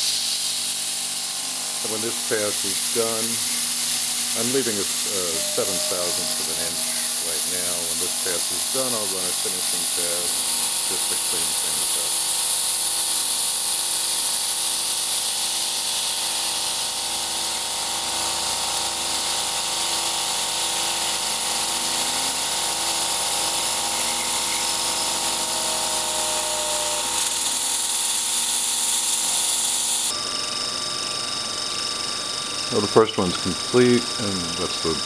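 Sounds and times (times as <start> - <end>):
coolant mist spray hiss: 0.0 - 5.4, 6.0 - 30.1
machine hum: 0.0 - 35.0
milling spindle whine: 0.0 - 35.0.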